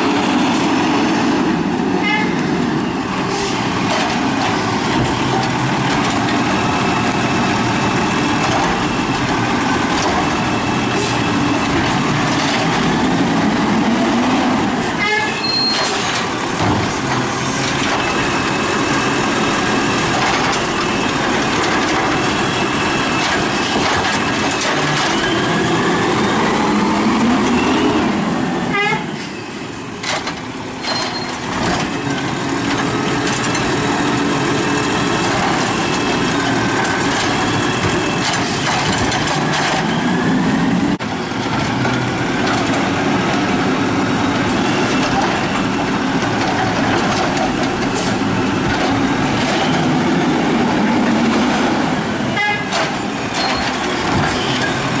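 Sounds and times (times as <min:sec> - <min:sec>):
garbage truck engine revving: 0:00.0 - 0:28.7, 0:29.9 - 0:55.0.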